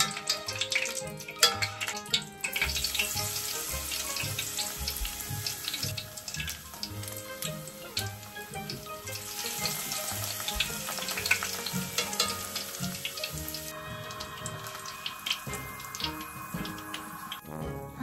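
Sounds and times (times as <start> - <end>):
tempura deep-frying in oil: 0.0 - 17.6.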